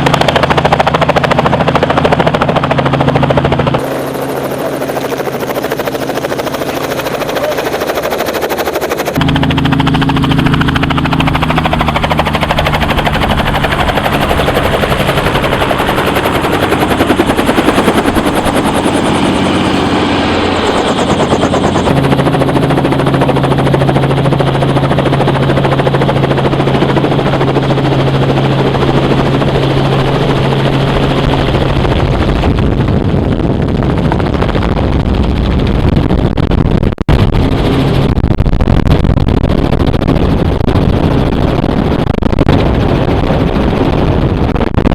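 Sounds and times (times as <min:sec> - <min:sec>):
helicopter drone: 0:00.0 - 0:44.9.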